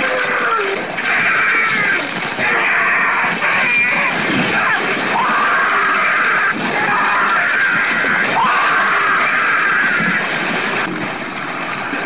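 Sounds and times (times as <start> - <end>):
water churning and splashing: 0.0 - 12.0
crashing: 0.8 - 11.0.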